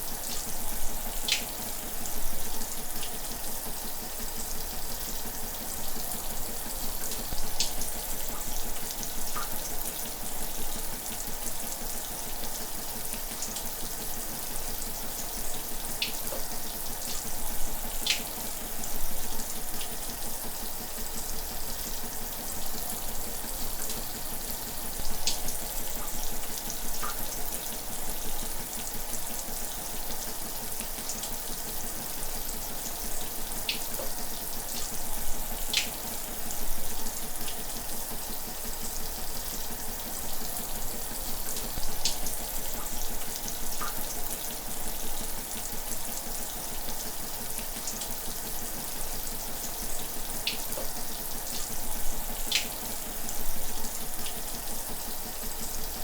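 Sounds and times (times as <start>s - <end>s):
shower spraying water: 0.0s - 56.0s.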